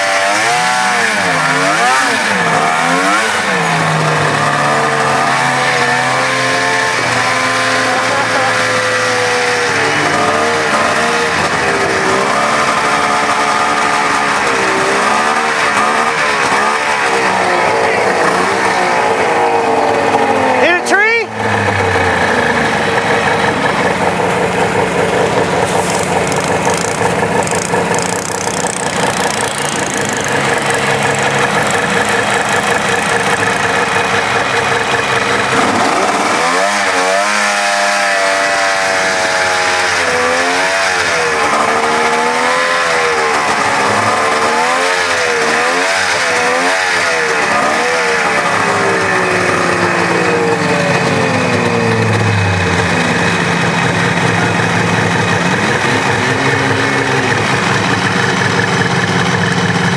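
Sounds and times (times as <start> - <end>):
snowmobile engine idling and revving: 0.0 - 59.9.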